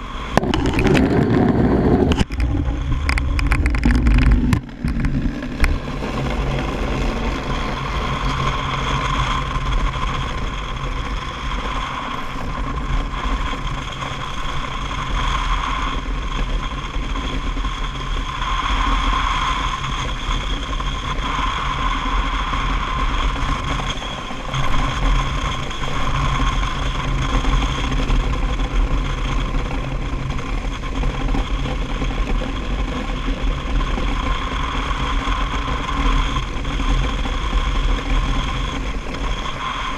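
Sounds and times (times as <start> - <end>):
thin steady whine: 0.0 - 39.9.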